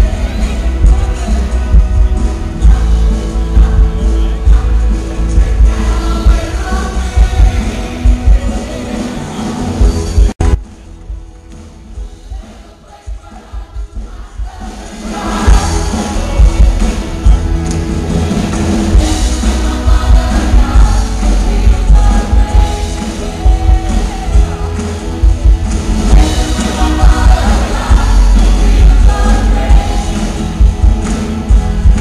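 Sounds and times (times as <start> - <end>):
choir singing with band: 0.0 - 10.3, 11.9 - 32.0.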